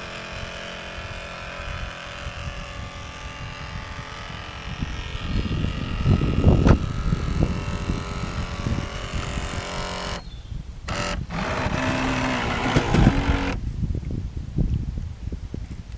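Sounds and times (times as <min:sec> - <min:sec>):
small electric motor whining: 0:00.0 - 0:13.6
low uneven rumble: 0:00.0 - 0:14.9.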